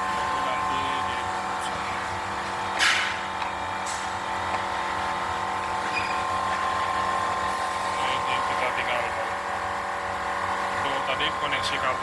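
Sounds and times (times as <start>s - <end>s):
background hum with whine: 0.0s - 12.0s.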